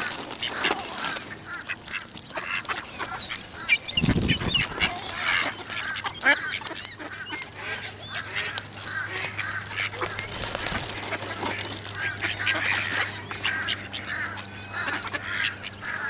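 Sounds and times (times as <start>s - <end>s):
bills pecking on concrete: 0.0s - 16.0s
ducks quacking: 0.0s - 16.0s.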